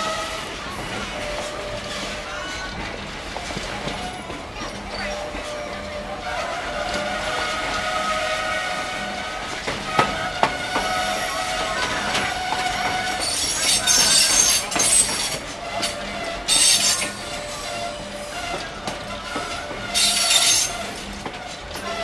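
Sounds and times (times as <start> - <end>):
train brakes squealing: 0.0 - 22.0.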